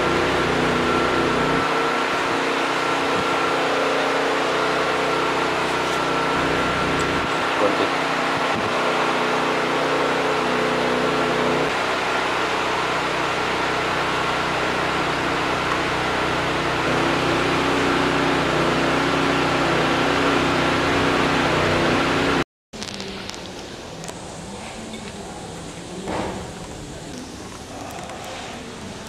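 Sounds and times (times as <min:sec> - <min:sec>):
engine running with high whine: 0:00.0 - 0:24.8.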